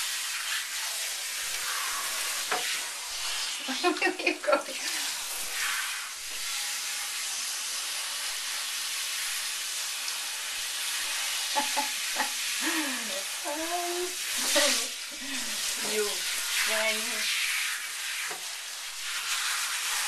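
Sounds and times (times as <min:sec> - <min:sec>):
shower sprayer hissing water: 0:00.0 - 0:20.0.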